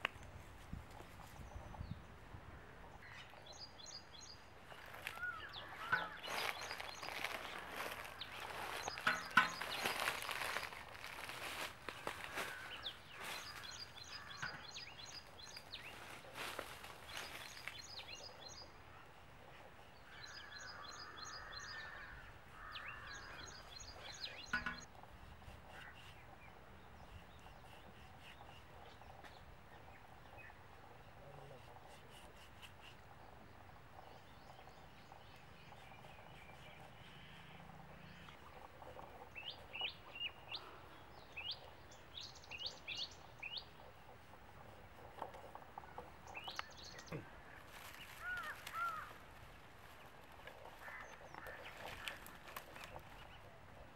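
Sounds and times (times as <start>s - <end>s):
faint outdoor background noise: 0.0s - 53.9s
small birds chirping: 2.8s - 53.9s.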